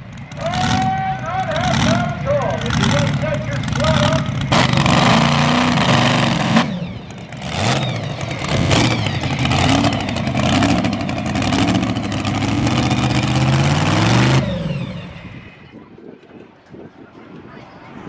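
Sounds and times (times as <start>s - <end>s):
supercharged truck engine revving: 0.0s - 15.6s.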